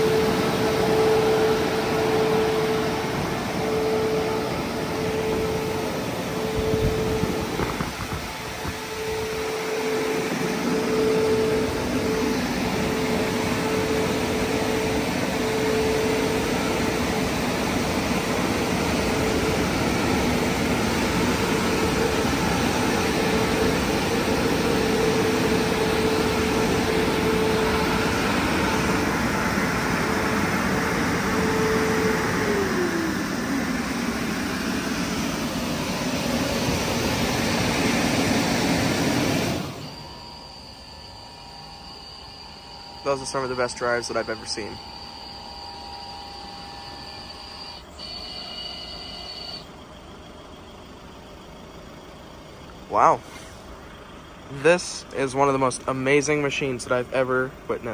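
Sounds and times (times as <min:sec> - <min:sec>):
car wash dryer blowers: 0:00.0 - 0:57.9.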